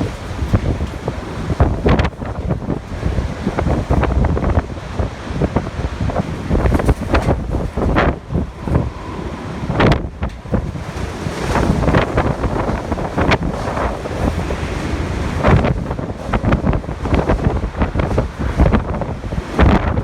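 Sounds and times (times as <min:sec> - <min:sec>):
wind buffeting microphone: 0:00.0 - 0:20.0
wind roaring in gusts: 0:00.0 - 0:20.0.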